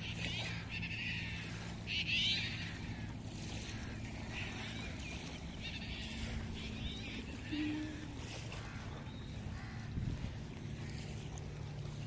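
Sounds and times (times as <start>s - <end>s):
birds chirping: 0.0s - 12.0s
low motor hum: 0.0s - 12.0s.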